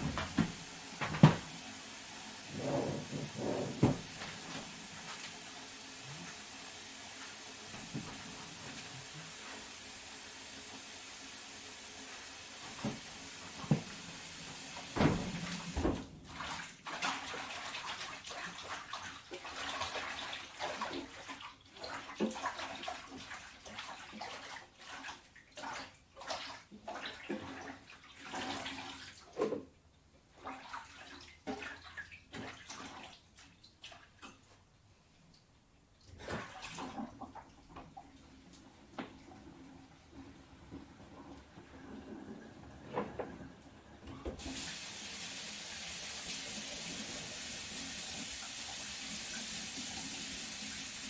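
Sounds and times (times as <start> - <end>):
water splashing in a sink: 0.0 - 29.7, 30.3 - 34.6, 36.0 - 42.6, 44.1 - 51.0.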